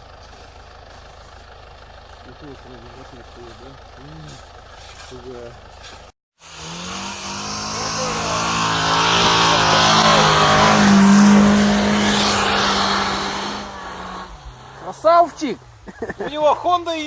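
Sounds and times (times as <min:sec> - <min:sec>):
car engine at high revs: 0:00.0 - 0:17.0
tyres hissing through snow: 0:00.0 - 0:17.0.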